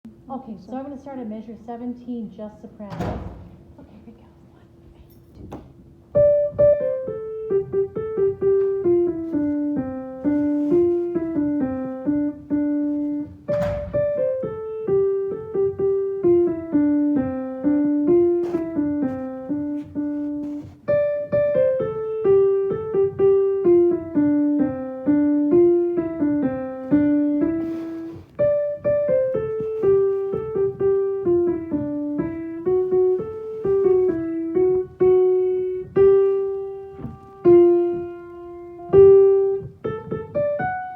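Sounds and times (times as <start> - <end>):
piano melody: 5.9 - 40.9.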